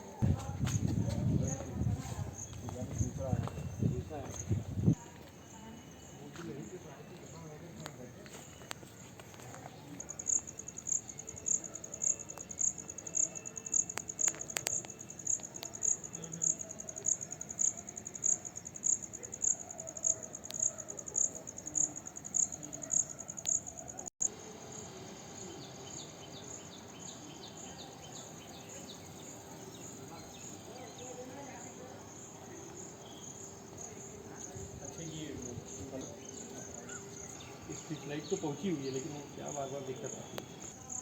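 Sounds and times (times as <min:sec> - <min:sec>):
cricket chirping: 0:00.0 - 0:41.0
faint insect ticking: 0:02.4 - 0:41.0.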